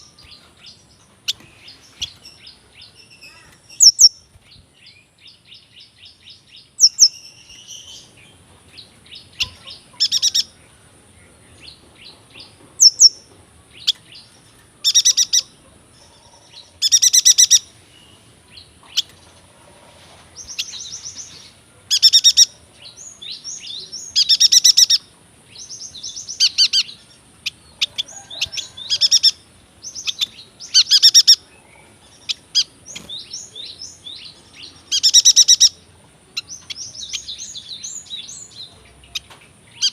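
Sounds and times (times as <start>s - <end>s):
bird singing trilled phrases: 0.0s - 8.2s, 9.1s - 10.6s, 12.8s - 13.2s, 13.8s - 15.5s, 16.7s - 19.2s, 21.9s - 39.9s
quiet bird chirps and twitters: 0.0s - 19.5s, 20.3s - 39.9s.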